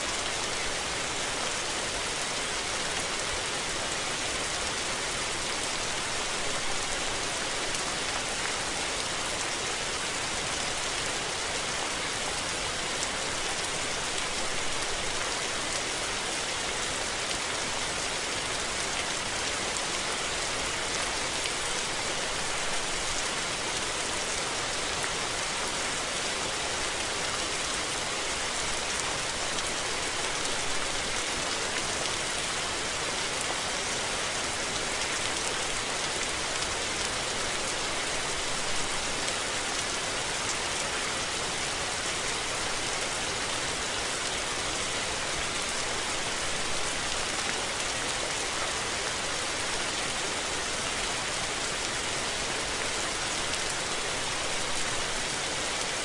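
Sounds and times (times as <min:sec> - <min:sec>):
rain falling on surfaces: 0:00.0 - 0:56.0.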